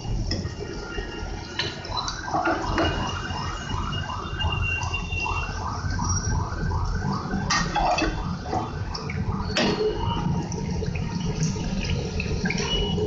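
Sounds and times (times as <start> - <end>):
oil bubbling and sizzling: 0.0 - 13.0
rhythmic warbling pulse: 0.0 - 13.0.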